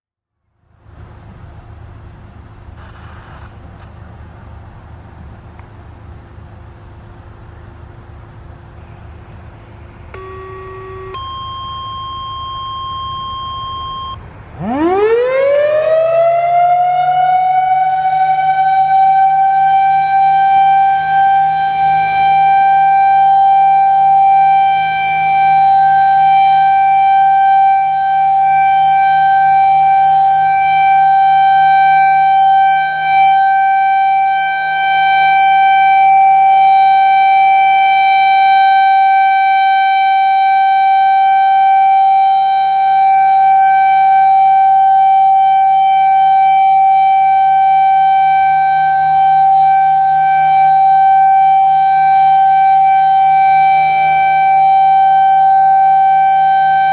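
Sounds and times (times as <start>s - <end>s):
warning siren steady tone: 8.6s - 56.9s.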